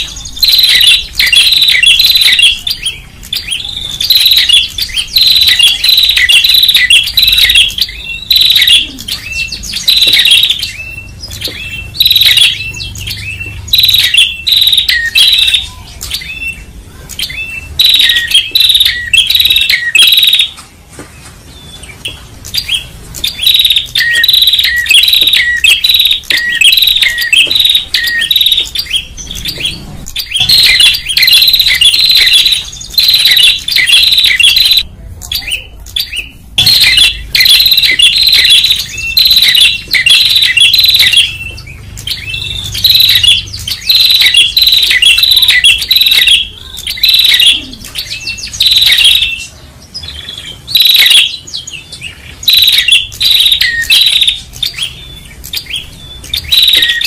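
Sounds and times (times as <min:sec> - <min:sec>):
bird chirping high sharp notes: 0:00.0 - 0:20.6, 0:21.7 - 0:57.0.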